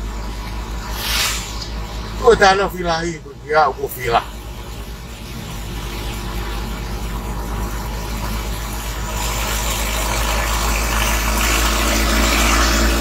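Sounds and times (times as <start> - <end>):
car engine rumble: 0.0 - 13.0
road noise hiss: 0.0 - 13.0.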